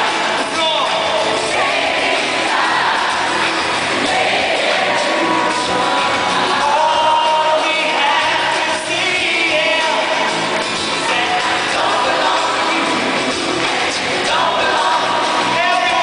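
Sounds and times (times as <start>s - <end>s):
live pop-rock band playing: 0.0s - 16.0s
man singing lead: 0.0s - 16.0s.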